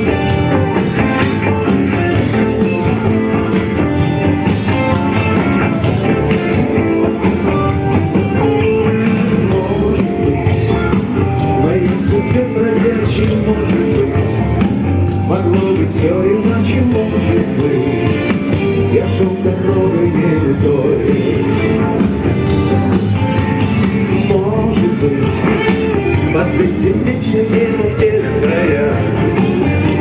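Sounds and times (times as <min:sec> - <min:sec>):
live rock band instrumental: 0:00.0 - 0:30.0.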